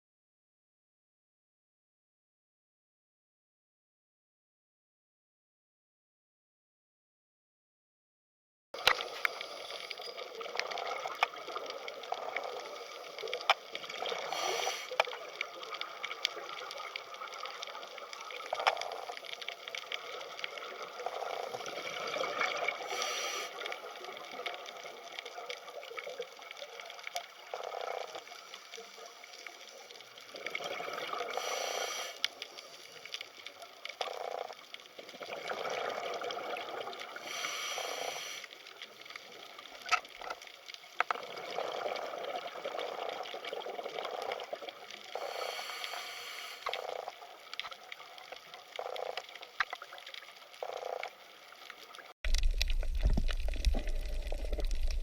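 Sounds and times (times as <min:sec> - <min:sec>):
water trickling and splashing: 0:08.8 - 0:55.0.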